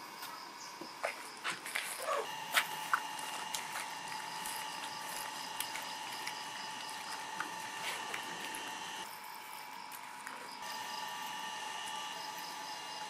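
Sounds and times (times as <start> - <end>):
steady hum with high whine: 0.0 - 13.0.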